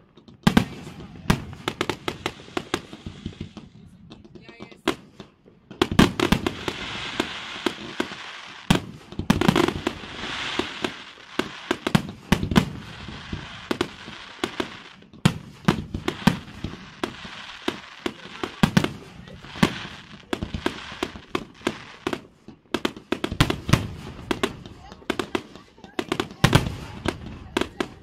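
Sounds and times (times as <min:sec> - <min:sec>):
fireworks crackling hiss: 0:00.4 - 0:28.0
firework shells bursting: 0:04.9 - 0:28.0.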